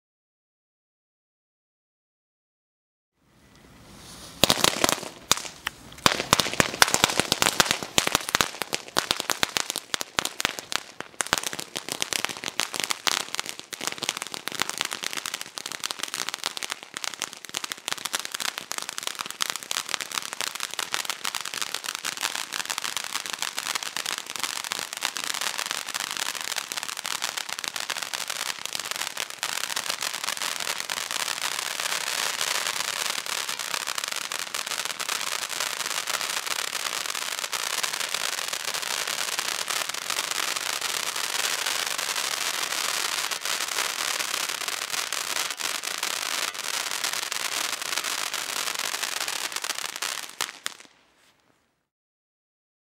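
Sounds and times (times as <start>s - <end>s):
firework fountain crackling: 3.6s - 51.4s
firework fountain rushing hiss: 3.8s - 50.8s.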